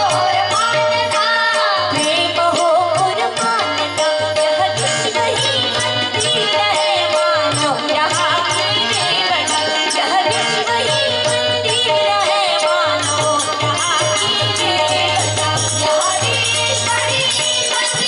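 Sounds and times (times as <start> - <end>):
regular percussion beat: 0.0 - 18.0
women's group singing: 0.0 - 18.0.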